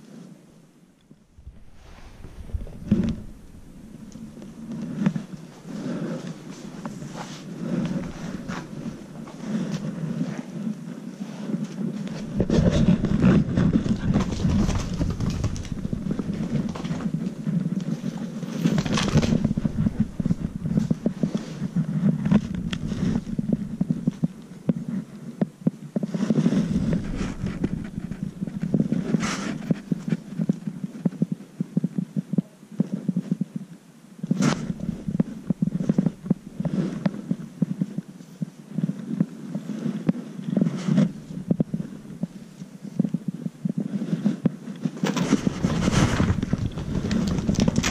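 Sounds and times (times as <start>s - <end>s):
kitten purring: 1.1s - 10.8s, 11.5s - 25.4s, 26.0s - 32.4s, 34.3s - 47.9s
handling knocks and rubs: 1.2s - 10.7s, 11.3s - 25.0s, 26.0s - 30.6s, 34.4s - 38.0s, 38.8s - 47.9s.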